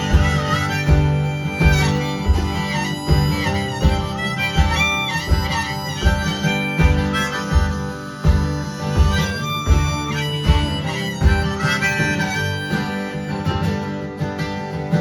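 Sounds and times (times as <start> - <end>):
low beat: 0.0 - 14.0
harmonica melody: 0.0 - 15.0
strummed acoustic guitar: 0.0 - 15.0.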